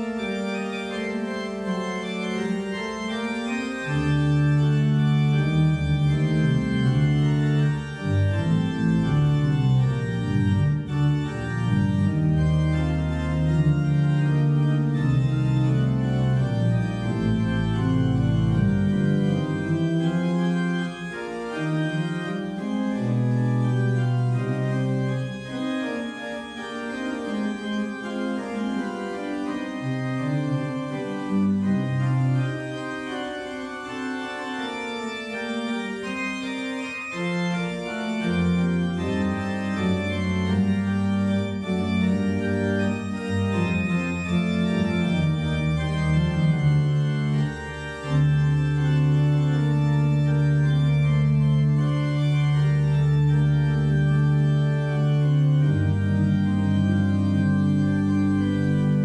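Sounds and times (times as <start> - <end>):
organ playing held chords: 0.0 - 59.0.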